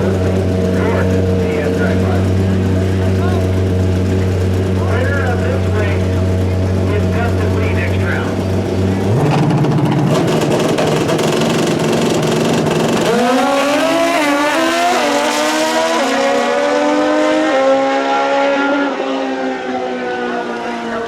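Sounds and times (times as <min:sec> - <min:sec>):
drag racing motorcycle accelerating: 0:00.0 - 0:21.0.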